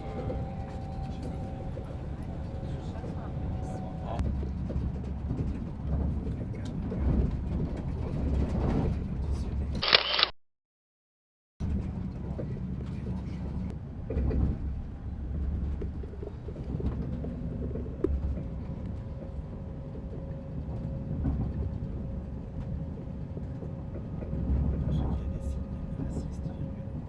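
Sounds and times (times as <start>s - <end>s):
train rumbling: 0.0s - 9.8s, 11.6s - 27.0s.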